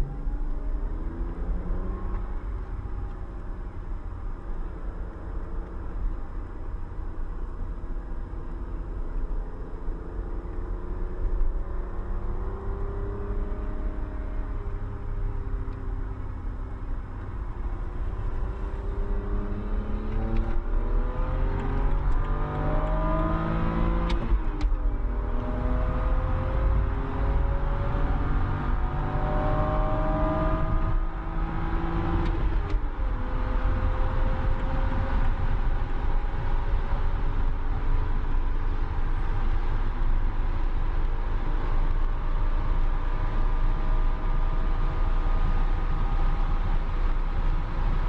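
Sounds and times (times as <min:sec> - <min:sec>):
road and wind noise: 0:00.0 - 0:48.0
car engine accelerating: 0:07.7 - 0:48.0.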